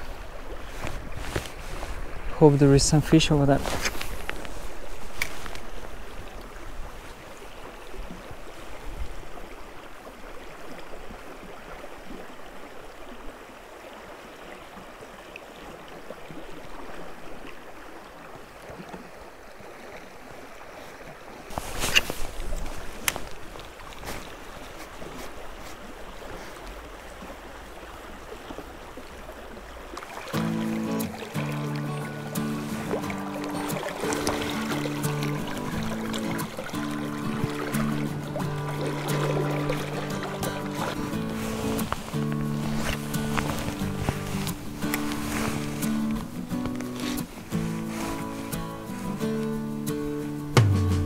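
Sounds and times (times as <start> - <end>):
river water flowing: 0.0 - 51.0.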